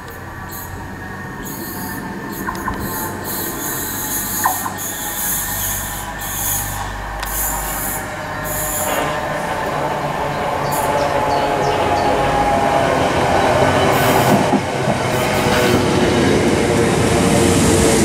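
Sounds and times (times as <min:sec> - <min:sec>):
train approaching: 0:00.0 - 0:18.0.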